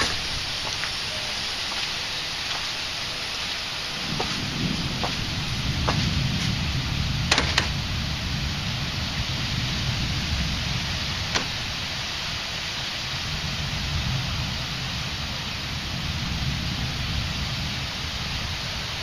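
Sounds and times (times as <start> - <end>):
low thunder rumble: 0.0 - 19.0
rain hissing: 0.0 - 19.0.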